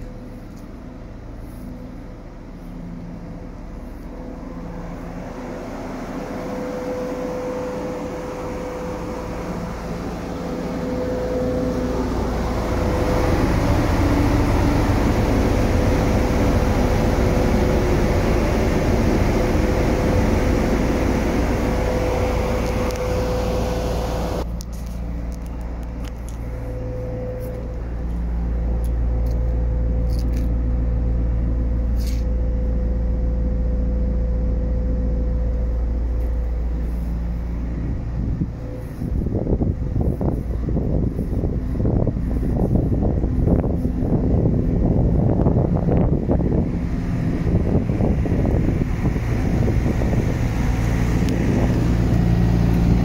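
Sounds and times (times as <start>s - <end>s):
idling machinery drone: 0.0s - 53.0s.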